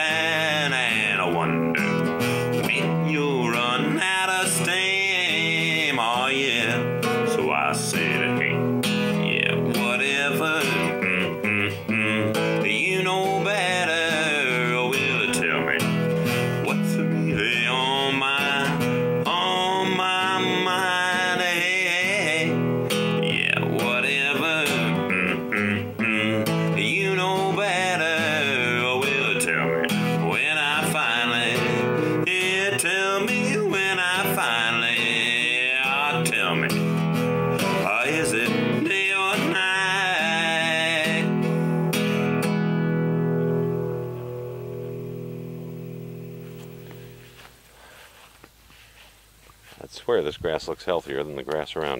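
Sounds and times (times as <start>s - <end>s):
person singing: 0.0s - 37.0s, 37.6s - 42.3s
acoustic guitar: 0.0s - 49.8s.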